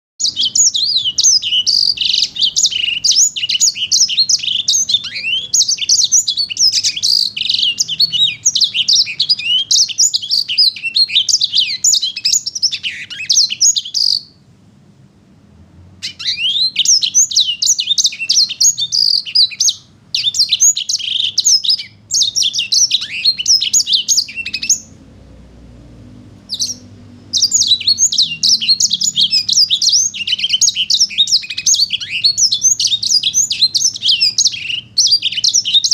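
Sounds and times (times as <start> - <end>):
songbird chattering song: 0.2 - 14.4, 16.0 - 25.1, 26.4 - 35.9.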